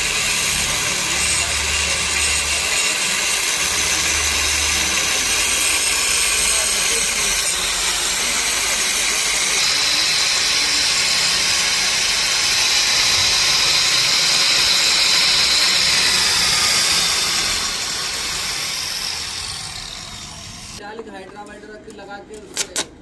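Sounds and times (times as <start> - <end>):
engine running: 0.0 - 20.8.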